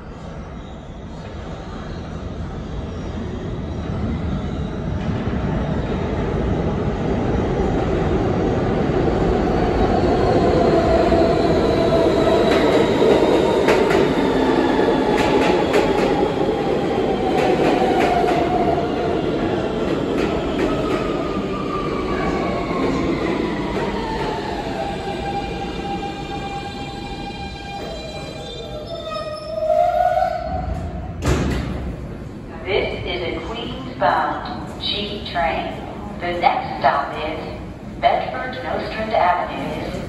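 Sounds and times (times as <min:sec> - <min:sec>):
subway train braking: 0:00.0 - 0:40.0.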